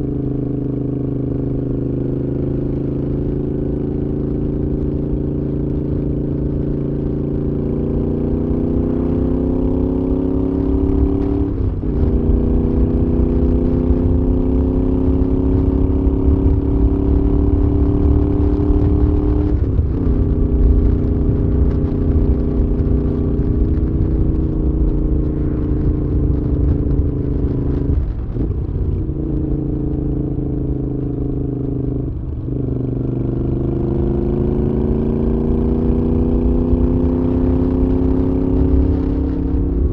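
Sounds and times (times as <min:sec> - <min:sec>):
motorcycle engine shifting gears: 0:00.0 - 0:39.9
low wind rumble: 0:02.6 - 0:39.9.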